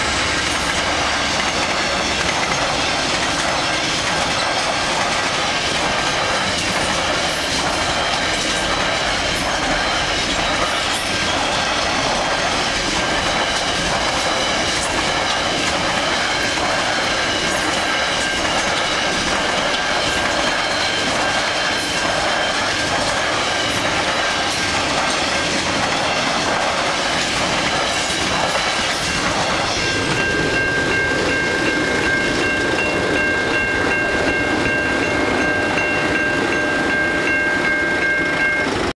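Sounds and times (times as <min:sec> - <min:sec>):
crossing warning bell ringing: 0:00.0 - 0:38.9
freight train wagons clattering: 0:00.0 - 0:38.9.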